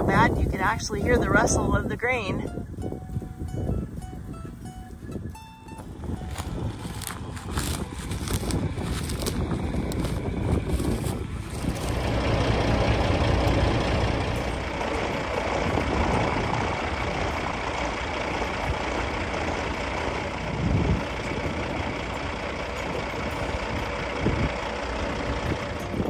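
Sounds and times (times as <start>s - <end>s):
vehicle running: 0.0s - 26.0s.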